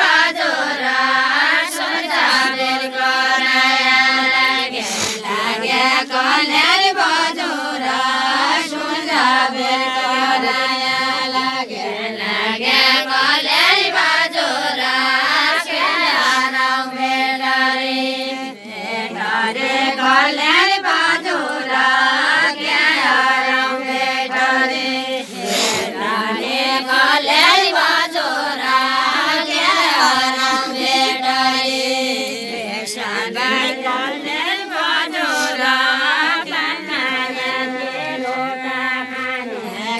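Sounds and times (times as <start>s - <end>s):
women singing without instruments: 0.0s - 39.9s.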